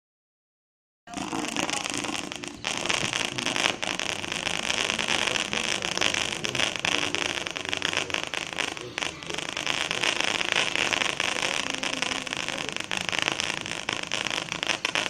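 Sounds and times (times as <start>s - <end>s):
fireworks crackling: 1.1s - 15.0s.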